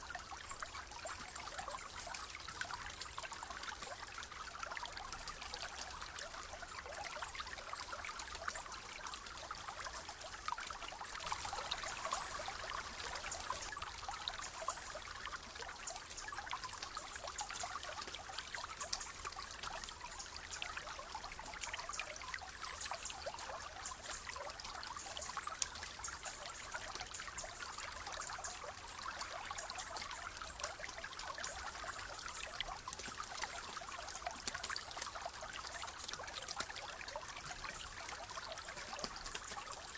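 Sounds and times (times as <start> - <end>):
stream splashing over stones: 0.0 - 39.9.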